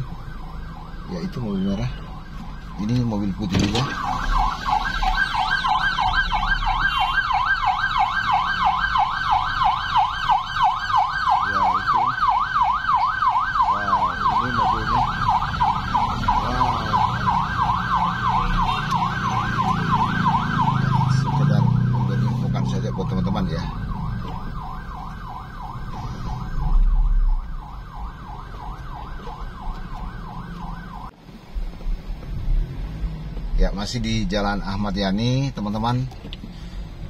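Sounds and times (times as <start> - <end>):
siren in a fast yelp: 0.0 - 31.1
low vehicle rumble: 0.0 - 35.4, 36.0 - 37.0.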